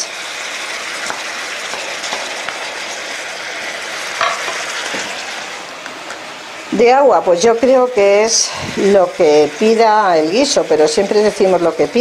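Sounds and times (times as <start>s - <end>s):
meat sizzling in frying pan: 0.0s - 12.0s.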